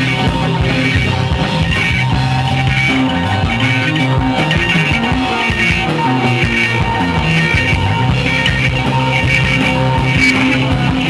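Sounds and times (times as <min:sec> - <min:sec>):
electric guitar picking: 0:00.0 - 0:11.0
live rock band playing: 0:00.0 - 0:11.0.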